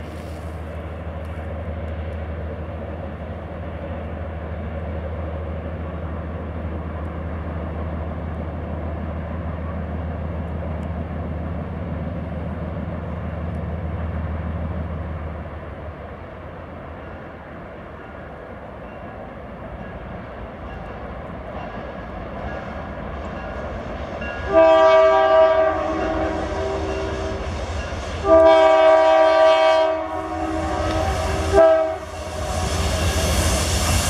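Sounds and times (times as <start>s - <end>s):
rumble of rolling train cars: 0.0s - 34.0s.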